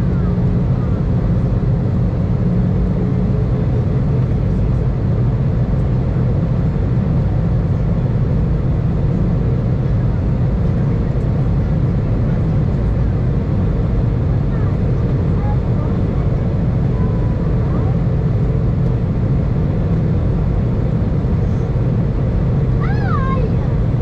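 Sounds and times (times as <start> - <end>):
low rumble of jet engines: 0.0 - 24.0.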